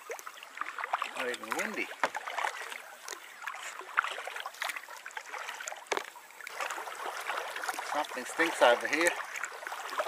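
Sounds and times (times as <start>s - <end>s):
paddle splashing and dripping: 0.0s - 10.0s.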